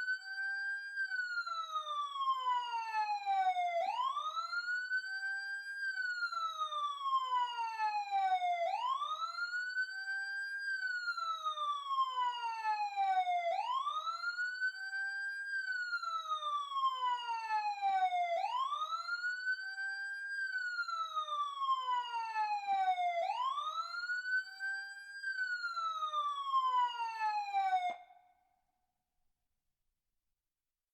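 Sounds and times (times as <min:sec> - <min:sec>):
police siren wailing: 0:00.0 - 0:28.2.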